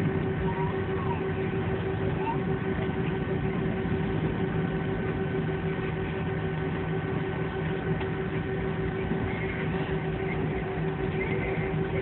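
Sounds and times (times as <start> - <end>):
jet airliner engine in cabin: 0.0 - 12.0.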